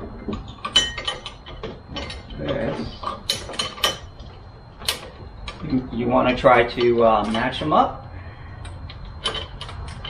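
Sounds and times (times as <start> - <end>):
metal parts clicking and clanking: 0.0 - 7.9, 8.5 - 10.0.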